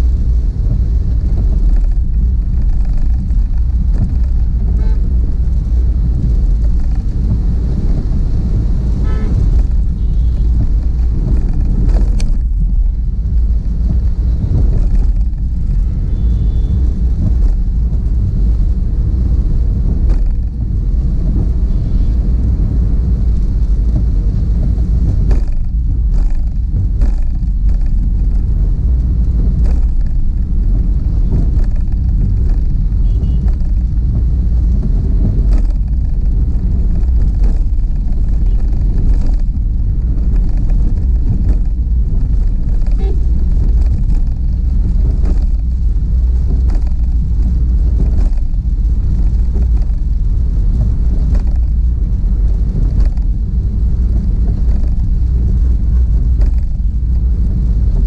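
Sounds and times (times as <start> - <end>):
car driving on wet road: 0.0 - 58.0.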